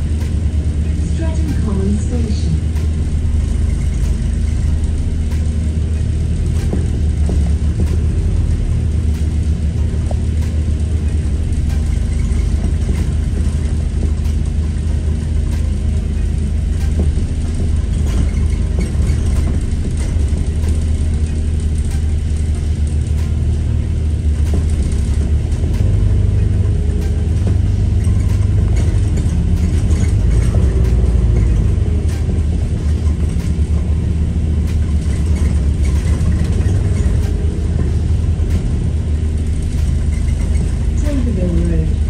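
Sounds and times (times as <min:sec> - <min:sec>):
bus engine drone: 0:00.0 - 0:42.0
rattling and creaking fittings: 0:00.0 - 0:42.0.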